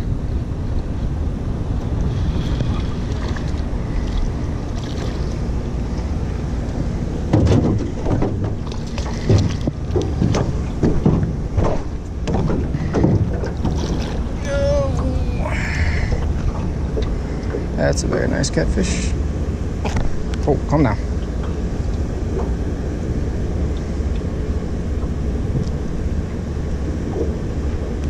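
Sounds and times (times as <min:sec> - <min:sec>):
wind rumble on microphone: 0:00.0 - 0:28.0.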